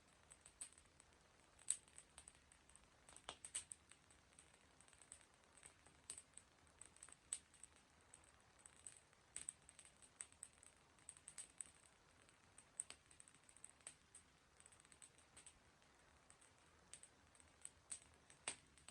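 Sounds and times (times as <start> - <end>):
campfire crackling: 0.1 - 18.9.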